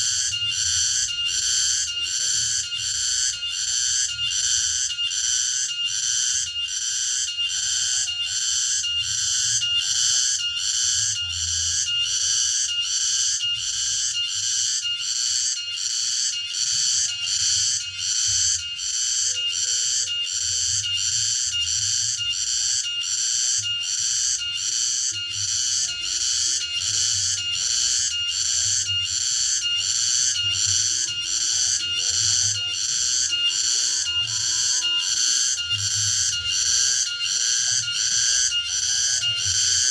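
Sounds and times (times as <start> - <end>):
cicada singing: 0.0 - 39.9.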